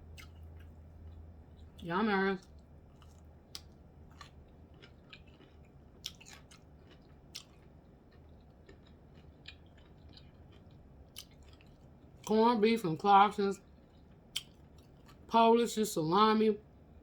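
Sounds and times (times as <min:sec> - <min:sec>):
person chewing food: 0:00.0 - 0:12.3, 0:13.6 - 0:15.3.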